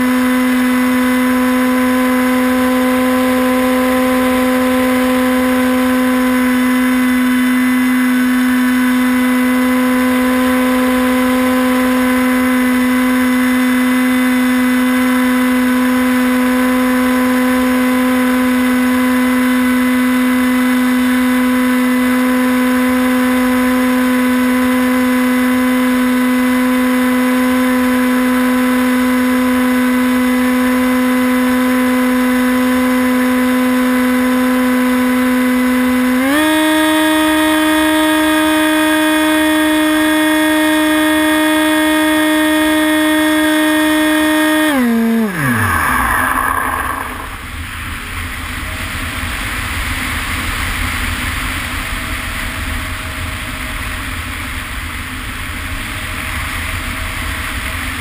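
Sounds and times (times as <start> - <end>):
electric motor and propeller hum: 0.0 - 47.8.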